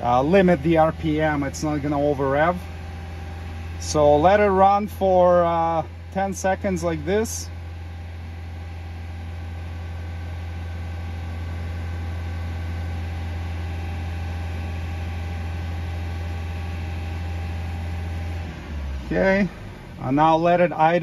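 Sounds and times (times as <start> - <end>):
car engine droning at high revs: 0.0 - 21.0.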